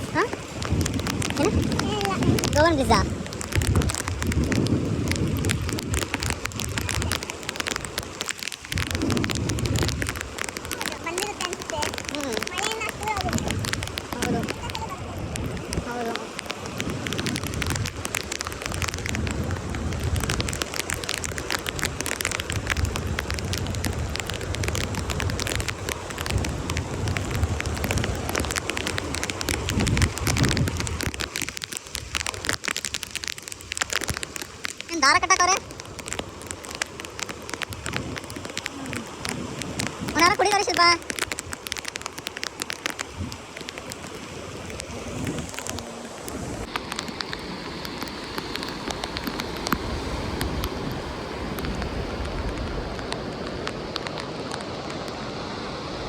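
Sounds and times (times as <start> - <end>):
raindrops tapping on surface: 0.0 - 55.3
steady low rain rumble: 0.0 - 56.0.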